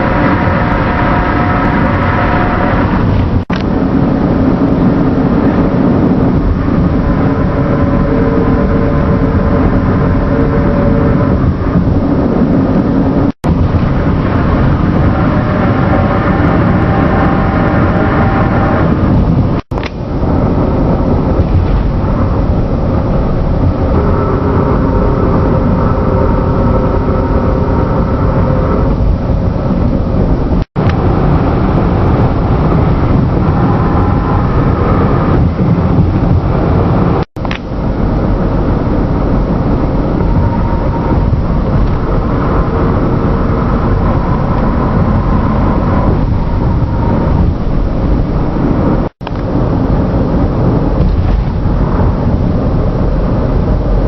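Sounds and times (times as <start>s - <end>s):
loud rumbling drone: 0.0s - 54.0s.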